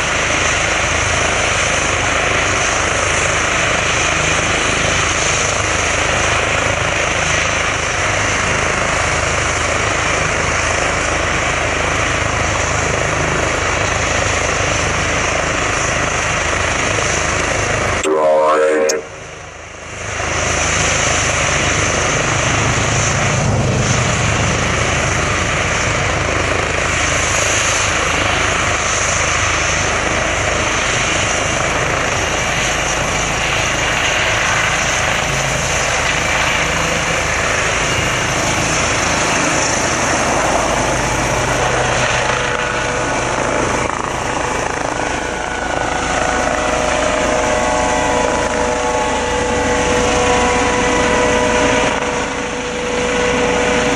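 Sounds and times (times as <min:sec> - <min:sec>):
helicopter rotor rumble: 0:00.0 - 0:53.9
helicopter turbine whine: 0:00.0 - 0:53.9.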